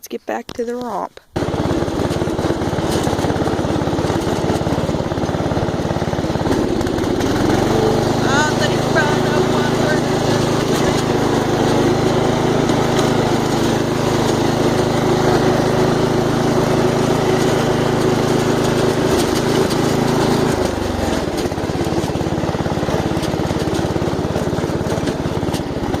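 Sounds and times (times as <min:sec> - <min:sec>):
lawn mower engine running: 0:01.3 - 0:26.0.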